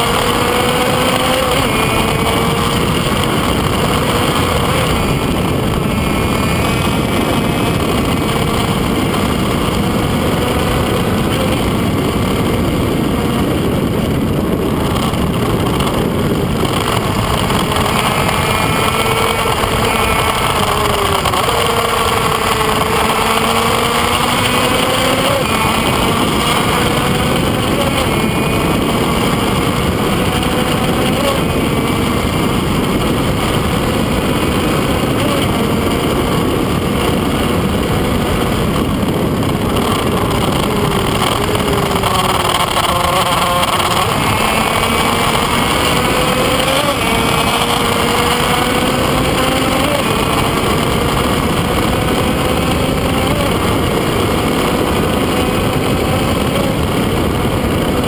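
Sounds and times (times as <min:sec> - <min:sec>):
motorcycle engine revving through gears: 0:00.0 - 0:58.0
wind noise on microphone: 0:00.0 - 0:58.0.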